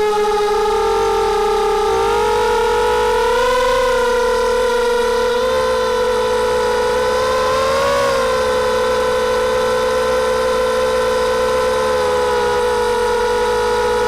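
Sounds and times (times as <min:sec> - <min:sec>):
quadcopter motors buzzing: 0:00.0 - 0:14.0.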